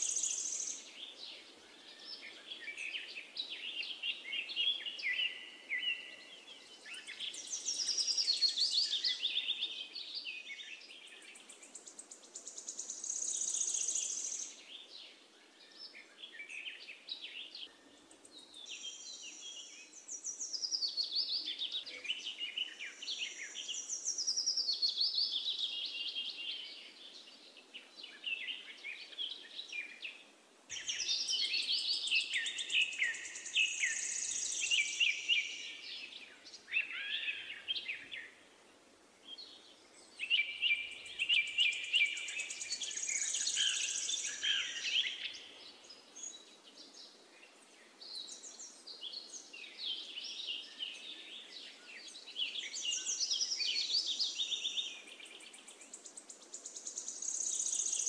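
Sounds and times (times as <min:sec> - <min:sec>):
faint background hiss: 0:00.0 - 0:58.0
songbirds chirping and trilling: 0:00.0 - 0:58.0.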